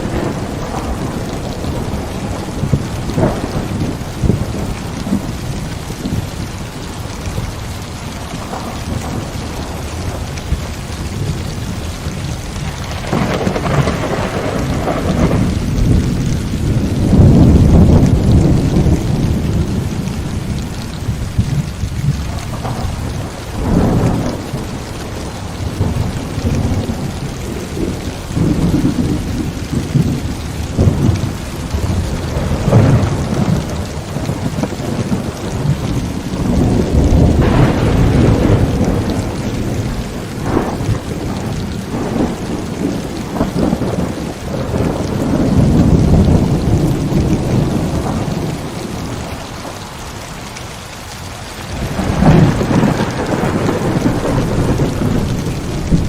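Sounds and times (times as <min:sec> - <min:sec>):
heavy rain falling: 0:00.0 - 0:56.0
rolling thunder: 0:00.0 - 0:56.0.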